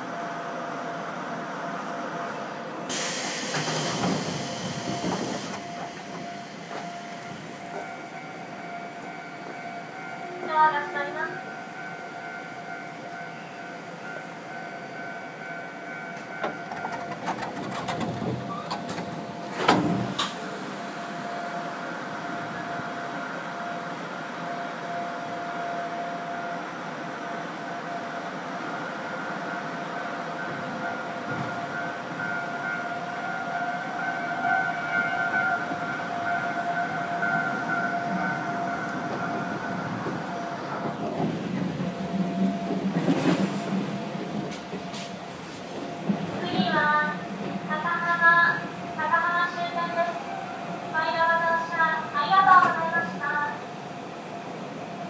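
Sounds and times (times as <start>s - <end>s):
train wheels rumbling on track: 0.0s - 23.9s, 26.9s - 50.0s.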